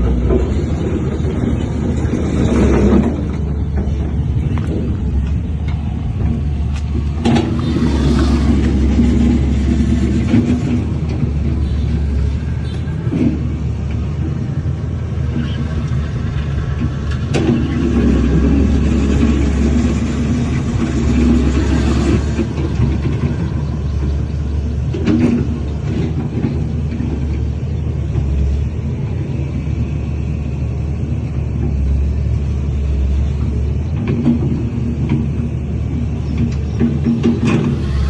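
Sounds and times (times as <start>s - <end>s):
diesel earthmoving machinery rumbling: 0.0s - 38.0s.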